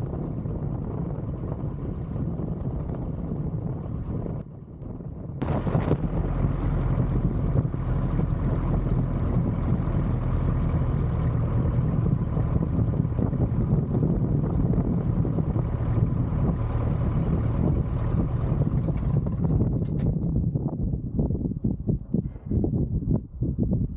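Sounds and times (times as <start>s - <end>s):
light aircraft engine droning: 0.0s - 23.9s
wind noise: 0.0s - 23.9s.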